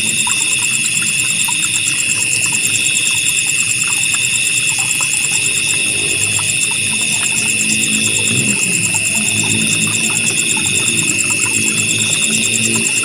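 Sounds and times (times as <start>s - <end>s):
crickets and insects trilling: 0.0s - 13.0s
flowing water with plinks: 0.0s - 13.0s.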